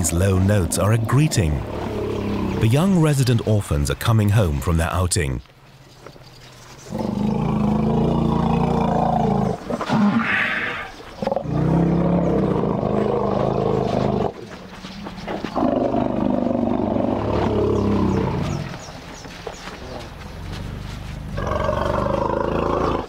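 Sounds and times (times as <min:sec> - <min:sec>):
elephants rumbling: 0:00.0 - 0:03.8, 0:06.6 - 0:23.0.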